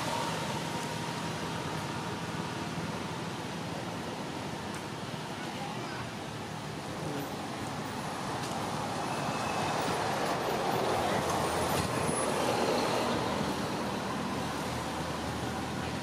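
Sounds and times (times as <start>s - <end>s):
rumble of passing traffic: 0.0s - 16.0s.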